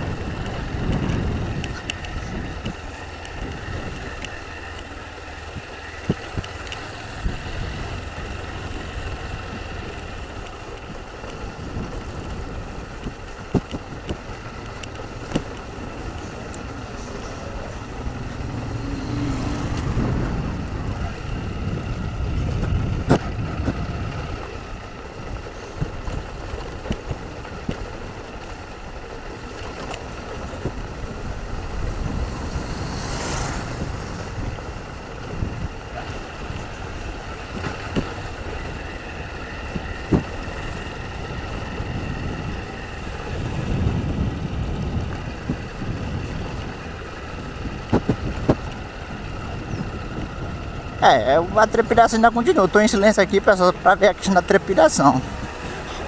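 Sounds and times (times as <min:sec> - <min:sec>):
wind on microphone: 0:00.0 - 0:04.8, 0:05.4 - 0:28.6, 0:29.4 - 0:53.6
motorcycle engine running: 0:00.0 - 0:56.0.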